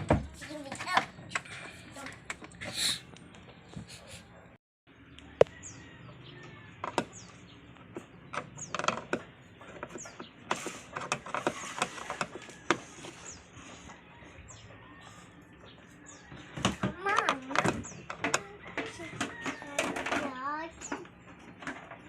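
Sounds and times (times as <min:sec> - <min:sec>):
small birds chirping: 0:00.5 - 0:19.8.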